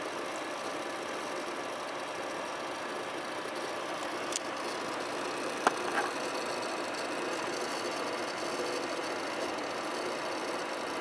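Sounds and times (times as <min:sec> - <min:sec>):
computer fans whirring: 0:00.0 - 0:11.0.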